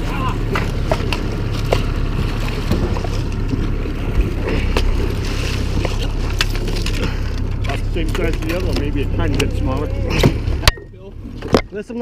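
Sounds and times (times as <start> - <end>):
boat motor humming: 0.0 - 12.0
water noise: 0.0 - 12.0.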